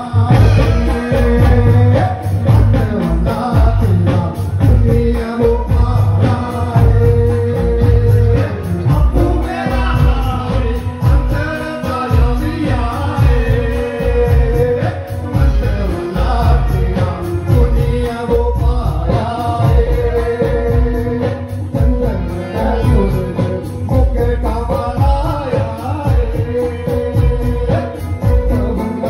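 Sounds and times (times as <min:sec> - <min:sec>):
person singing folk song: 0:00.0 - 0:29.0
strong bass beat: 0:00.1 - 0:29.0.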